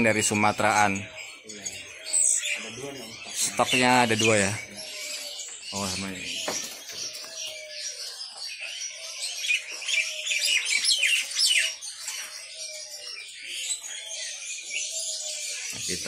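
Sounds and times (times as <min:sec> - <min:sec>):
songbirds chirping and twittering: 0:00.0 - 0:16.0.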